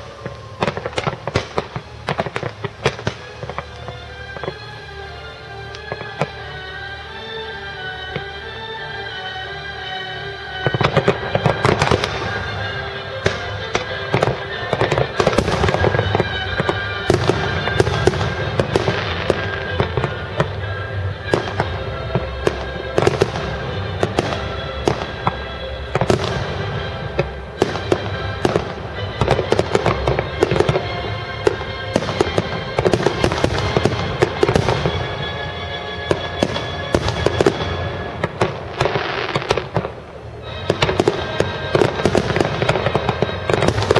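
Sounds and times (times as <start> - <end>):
fireworks bursting and crackling: 0.0 - 43.9
music playing: 0.0 - 43.9.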